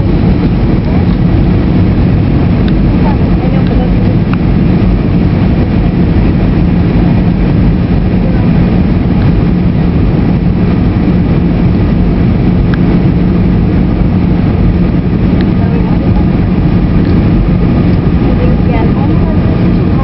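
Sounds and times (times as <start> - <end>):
jet engines and rushing air: 0.0 - 20.0
low hum: 0.0 - 20.0.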